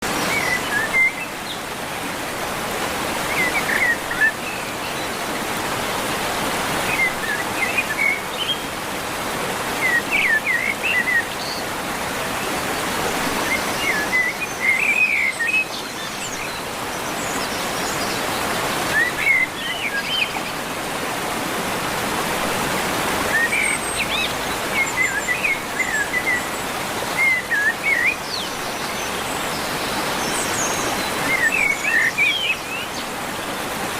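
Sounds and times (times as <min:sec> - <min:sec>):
birds chirping: 0:00.0 - 0:33.9
flowing water: 0:00.0 - 0:33.9.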